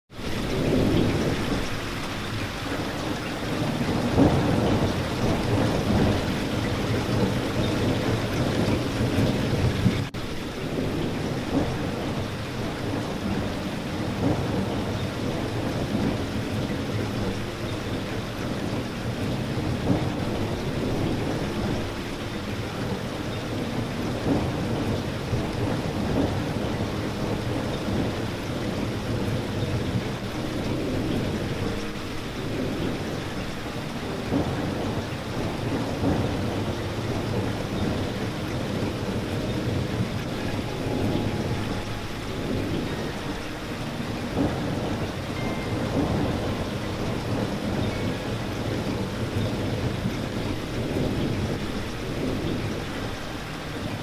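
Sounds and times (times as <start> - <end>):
steady rain falling: 0.1 - 54.0.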